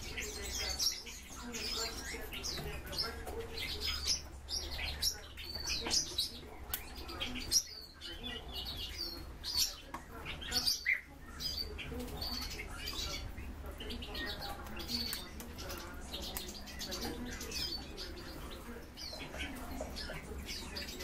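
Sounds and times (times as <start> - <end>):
birds chirping and twittering: 0.0 - 21.0.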